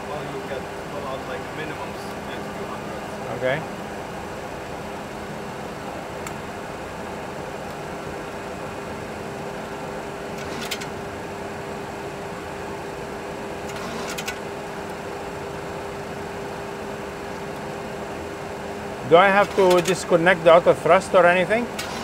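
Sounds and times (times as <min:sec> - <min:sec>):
cockpit hum: 0:00.0 - 0:22.0.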